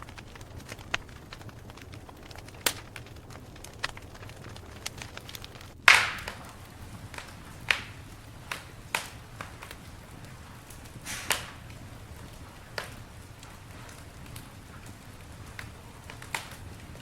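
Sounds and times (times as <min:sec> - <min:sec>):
burning wood popping: 0:00.0 - 0:17.0
campfire crackling: 0:00.0 - 0:17.0.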